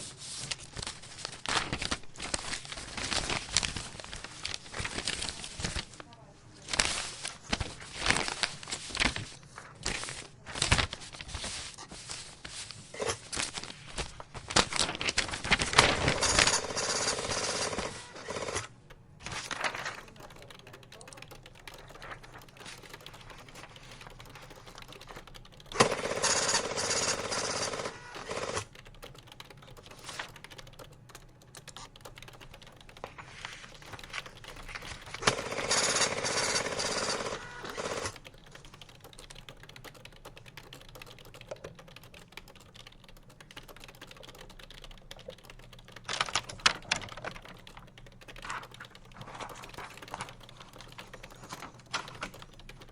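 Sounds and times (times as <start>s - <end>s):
computer keyboard typing: 0.8s - 5.9s, 14.1s - 52.9s.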